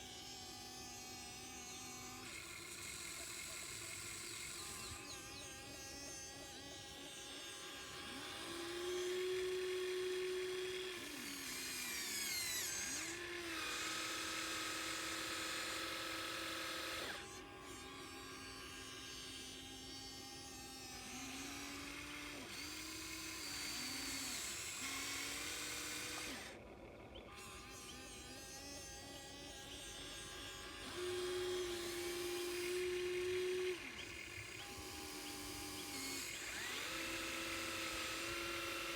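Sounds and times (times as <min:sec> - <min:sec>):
small electric motors whining: 0:00.0 - 0:38.9.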